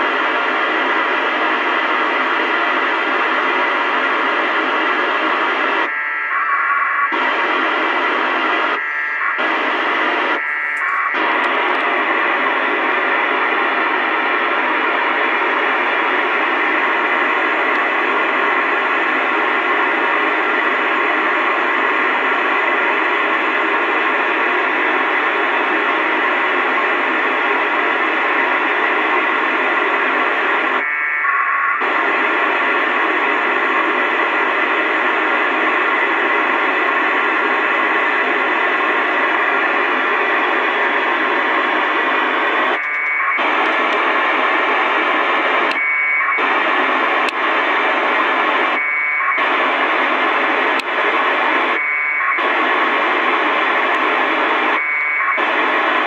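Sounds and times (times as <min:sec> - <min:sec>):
radio static hiss: 0:00.0 - 0:56.0.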